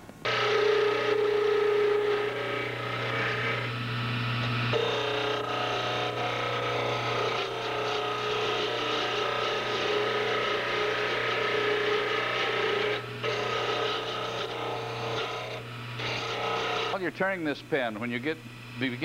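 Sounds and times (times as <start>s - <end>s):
lathe motor hum: 0.2s - 19.0s
lathe tool scraping wood: 0.3s - 19.0s.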